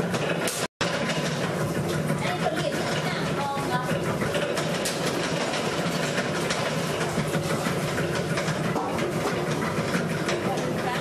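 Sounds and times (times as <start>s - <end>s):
rolling mill running: 0.0s - 11.0s.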